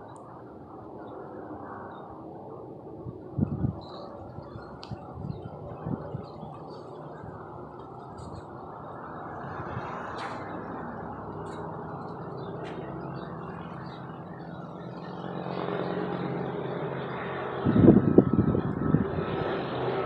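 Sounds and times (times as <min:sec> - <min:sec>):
helicopter drone: 0:00.0 - 0:20.0.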